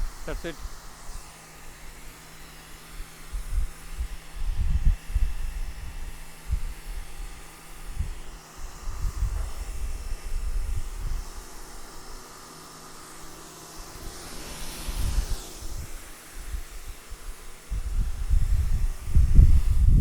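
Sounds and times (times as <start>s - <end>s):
low motor hum: 0.0s - 20.0s
pressure washer spray hiss: 0.0s - 20.0s.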